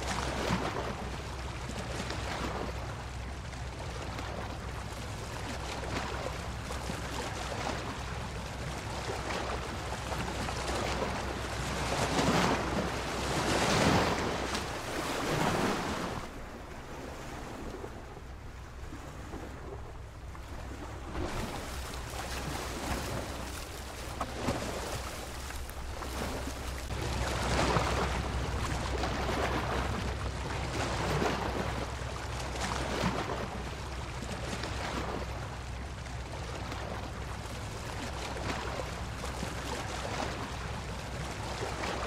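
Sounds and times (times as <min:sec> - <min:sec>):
waves breaking and washing ashore: 0:00.0 - 0:42.0
low surf rumble: 0:02.5 - 0:39.2.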